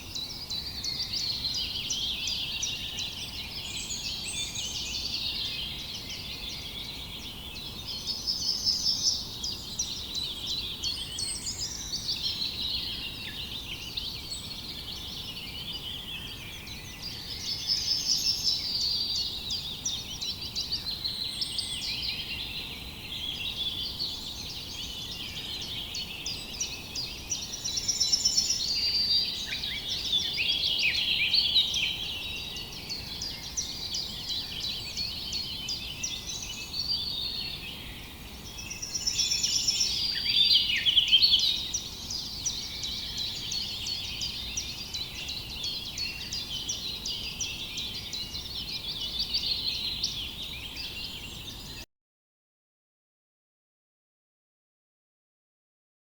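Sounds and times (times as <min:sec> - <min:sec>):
small birds chirping and trilling: 0:00.0 - 0:51.9.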